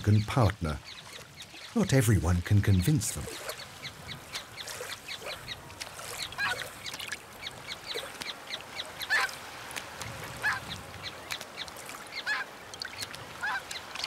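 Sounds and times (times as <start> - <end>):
wetland birds calling: 0.0 - 14.0.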